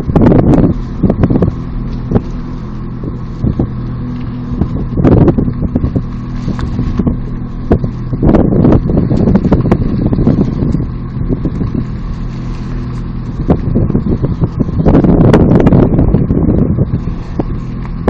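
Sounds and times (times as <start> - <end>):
car engine running: 0.0 - 18.0
wind rumbling on microphone: 0.0 - 18.0.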